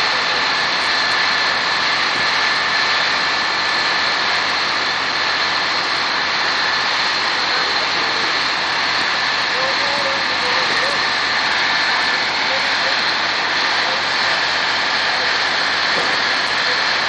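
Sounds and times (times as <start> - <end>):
fire truck engines and pumps roaring: 0.0 - 17.0
water cannon spraying: 0.0 - 17.0.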